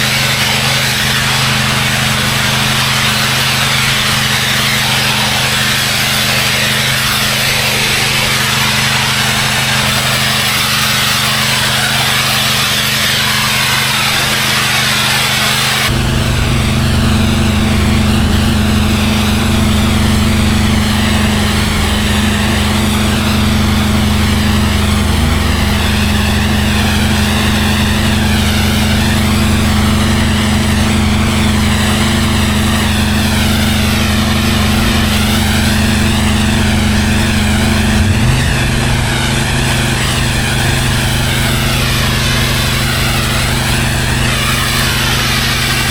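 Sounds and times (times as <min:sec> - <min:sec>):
high-pressure water spray hissing: 0:00.0 - 0:45.9
pressure washer engine running: 0:00.0 - 0:45.9.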